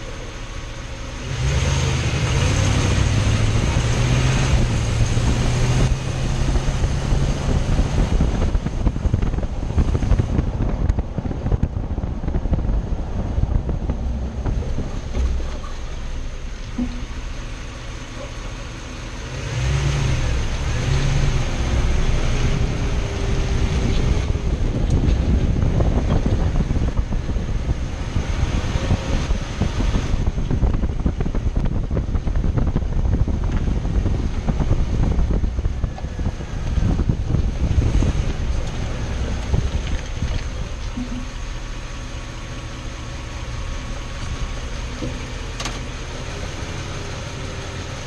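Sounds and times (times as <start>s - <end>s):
pickup engine rumbling: 0.0s - 48.0s.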